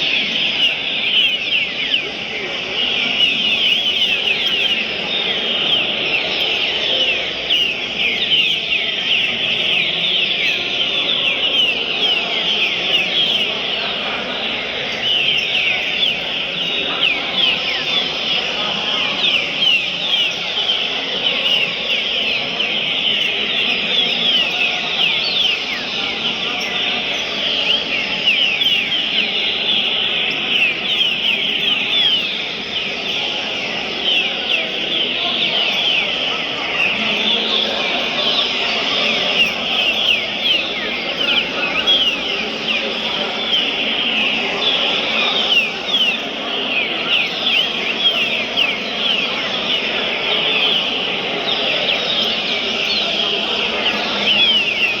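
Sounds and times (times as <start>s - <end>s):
bird whistling song: 0.0s - 55.0s
low background noise: 0.0s - 55.0s.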